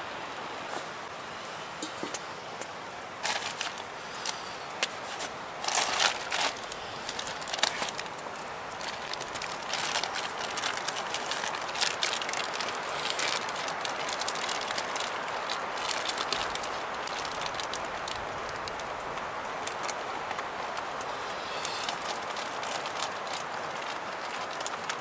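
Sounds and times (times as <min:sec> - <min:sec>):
wind hissing: 0:00.0 - 0:25.0
plastic bag crinkling: 0:03.2 - 0:25.0.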